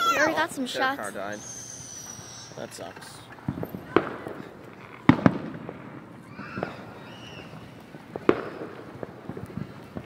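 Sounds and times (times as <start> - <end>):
fireworks bangs: 1.4 - 10.0
small fireworks pops: 1.4 - 10.0.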